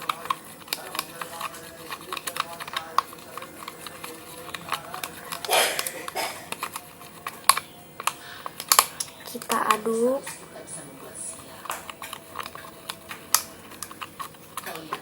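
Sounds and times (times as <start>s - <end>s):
stirrer clicking against container: 0.0s - 15.0s.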